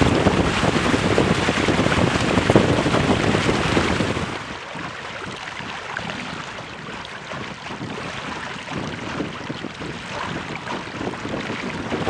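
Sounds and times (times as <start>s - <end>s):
water splashing along hull: 0.0s - 12.0s
wind buffeting microphone: 0.0s - 12.0s.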